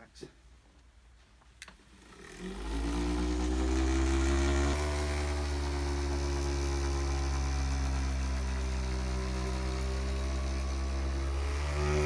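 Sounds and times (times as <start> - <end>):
electric massager motor humming: 1.7 - 12.0.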